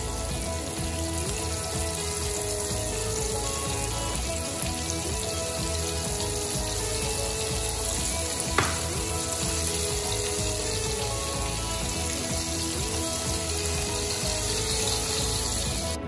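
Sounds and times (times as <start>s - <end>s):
fish frying in oil: 0.0s - 16.0s.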